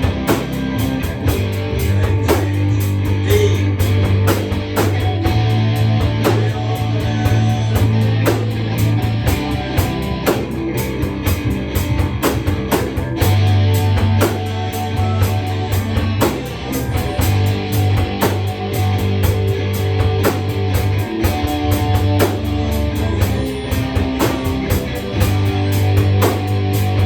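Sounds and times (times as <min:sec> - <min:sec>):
rock music: 0:00.0 - 0:27.0.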